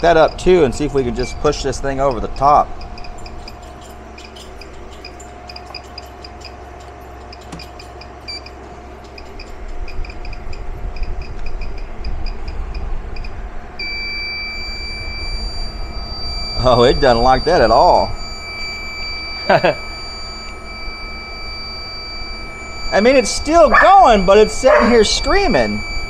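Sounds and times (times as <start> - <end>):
air conditioner humming: 0.0 - 26.0
cooling fans humming: 0.0 - 26.0
inverter high-pitched chirping: 0.0 - 26.0.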